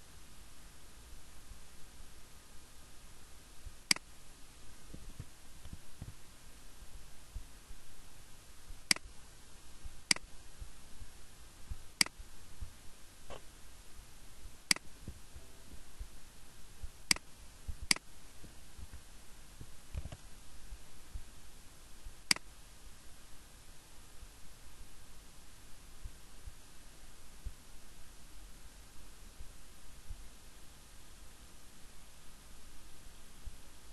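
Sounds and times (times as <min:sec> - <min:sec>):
faint steady background noise: 0:00.0 - 0:33.9.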